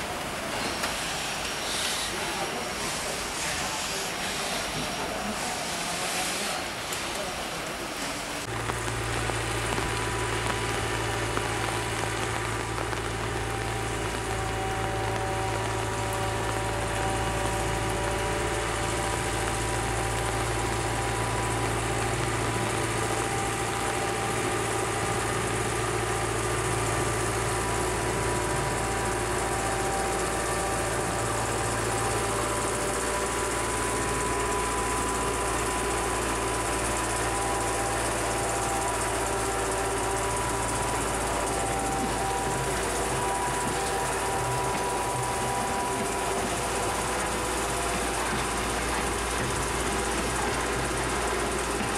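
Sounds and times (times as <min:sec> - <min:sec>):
locomotive machinery humming: 0:00.0 - 0:51.9
whining tones: 0:08.4 - 0:51.9.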